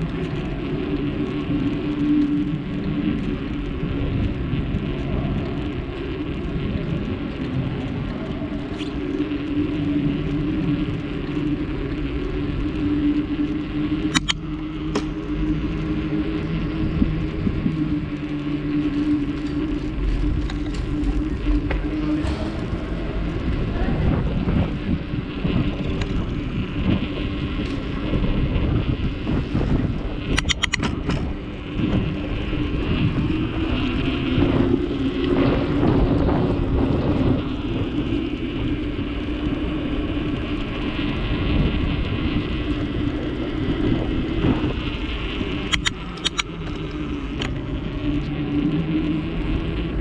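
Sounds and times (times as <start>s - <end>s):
rattle of clicks: 0.0s - 48.4s
bicycle rolling rumble: 0.0s - 50.0s
low hum: 0.0s - 50.0s
wind: 0.0s - 50.0s.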